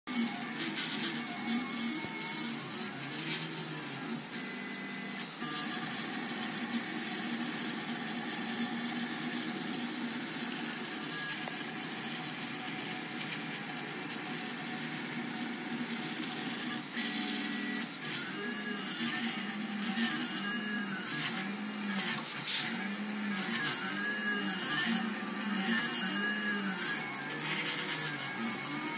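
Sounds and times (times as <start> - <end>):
printer stepper motors whirring: 0.1 - 28.9.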